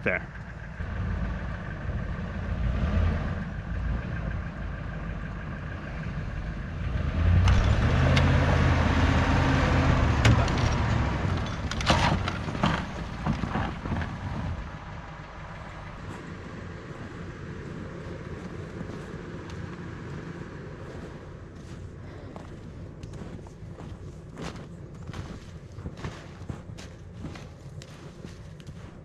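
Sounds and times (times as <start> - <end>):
trailer knocking and rattling: 0.0 - 29.0
truck engine under load: 0.0 - 29.0.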